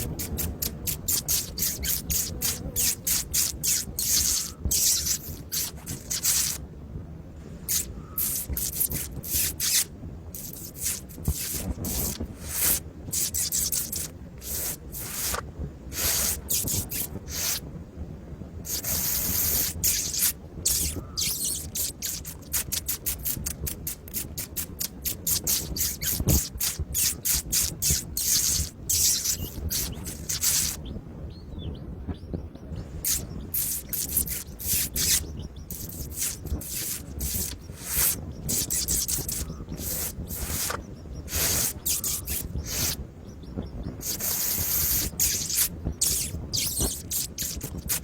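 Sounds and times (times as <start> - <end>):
hiss: 0.0 - 6.6, 7.6 - 17.7, 18.7 - 30.8, 33.0 - 43.0, 44.0 - 48.0
scratchy clicks of birds feeding: 0.0 - 6.6, 7.7 - 17.6, 18.7 - 30.9, 32.8 - 48.0.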